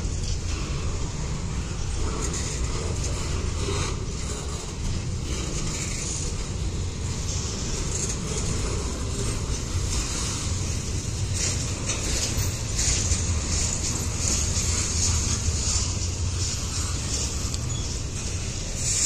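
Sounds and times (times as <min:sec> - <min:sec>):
hiss: 0:00.0 - 0:19.0
train wheels rumbling on rail: 0:00.0 - 0:19.0.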